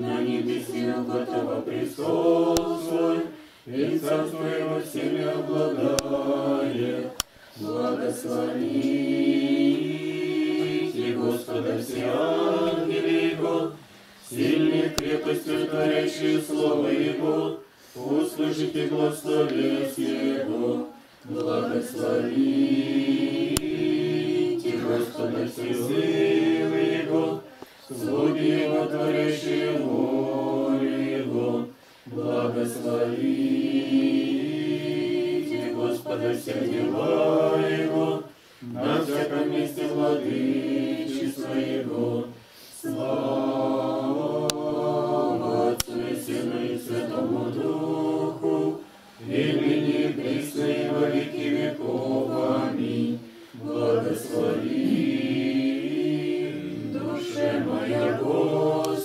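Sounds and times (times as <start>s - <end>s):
group of voices chanting: 0.0s - 59.0s.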